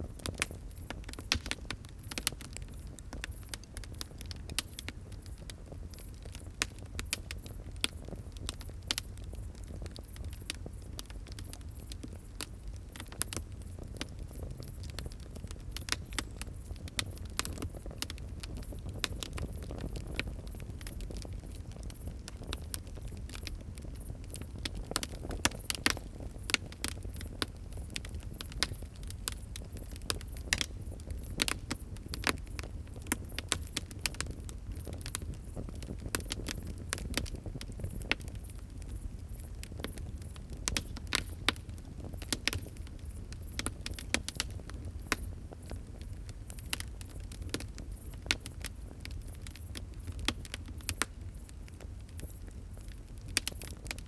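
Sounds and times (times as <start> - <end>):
low rumble of fire: 0.0 - 54.0
wood fire popping and snapping: 0.1 - 54.0.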